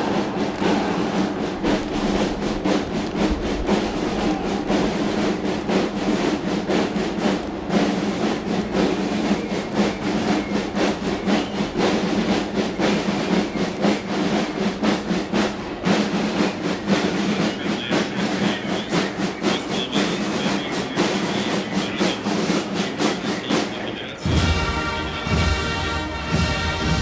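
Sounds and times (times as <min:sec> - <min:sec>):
military band playing a march: 0:00.0 - 0:27.0.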